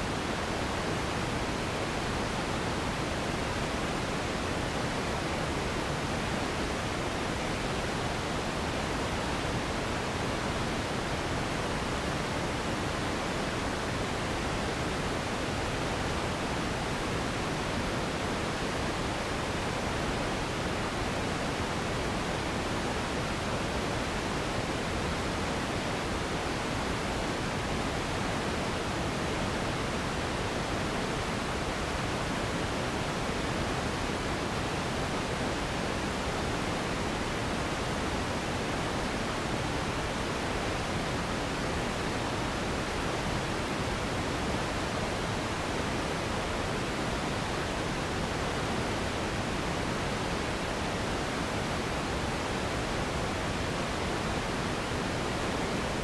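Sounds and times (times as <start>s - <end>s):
low-pitched steady hiss: 0.0s - 56.0s.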